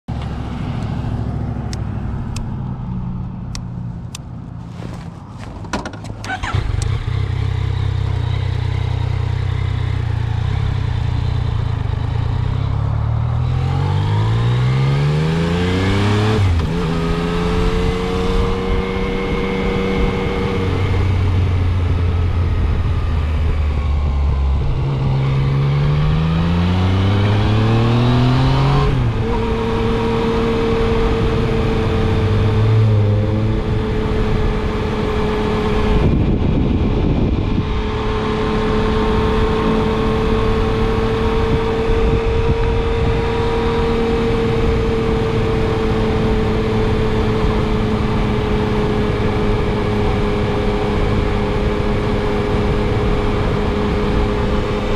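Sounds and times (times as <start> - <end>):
motorcycle engine revving: 6.2 - 54.9.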